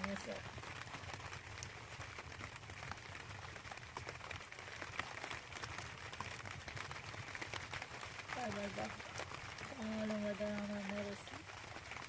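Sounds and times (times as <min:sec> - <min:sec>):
rain falling: 0:00.0 - 0:12.0
raindrops ticking: 0:00.0 - 0:12.0.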